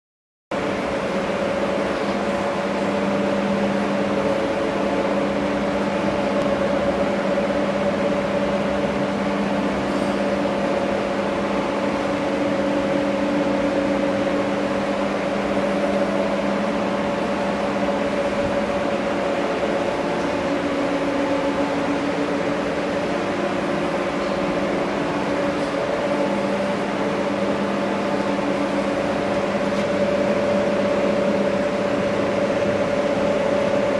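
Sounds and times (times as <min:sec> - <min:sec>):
hydraulic pump humming: 0:00.6 - 0:33.9.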